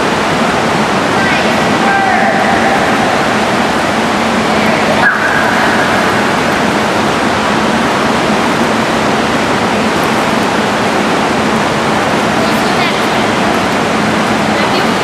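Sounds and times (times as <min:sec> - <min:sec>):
pool water splashing: 0:00.0 - 0:15.0.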